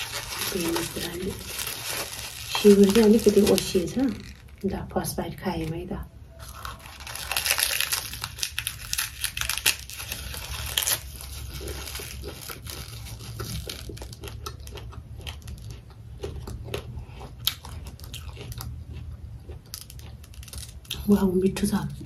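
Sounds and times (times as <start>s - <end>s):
crisp crunching chewing: 0.0s - 4.8s, 6.4s - 21.1s.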